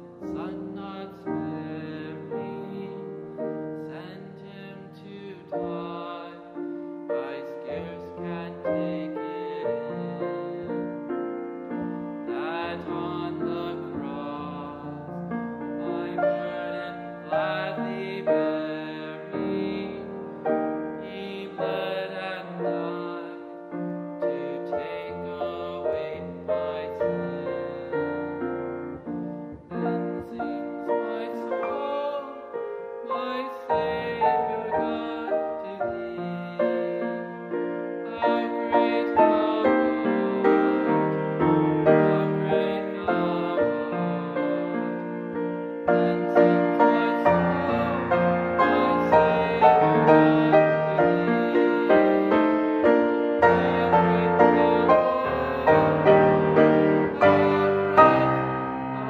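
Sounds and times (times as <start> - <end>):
gentle piano music: 0.0 - 59.0.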